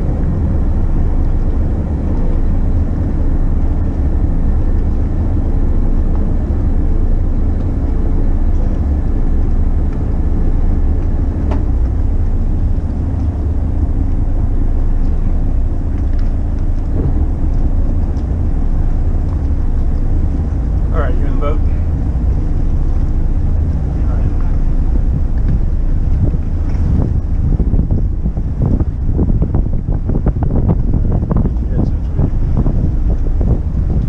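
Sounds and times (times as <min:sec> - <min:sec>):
motor yacht engines rumbling: 0:00.0 - 0:34.0.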